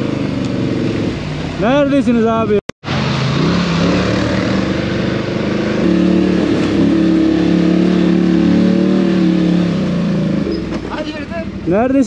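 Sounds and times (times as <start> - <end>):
atv engine running: 0.0 - 1.9, 2.9 - 11.9.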